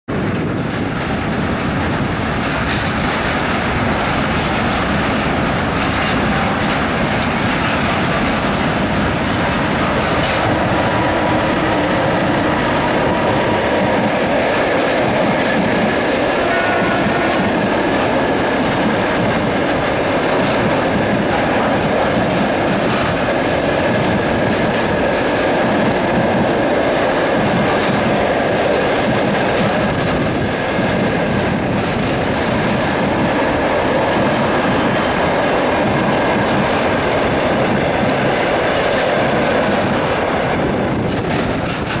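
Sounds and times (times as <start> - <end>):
train wheels clattering on rails: 0.1 - 42.0.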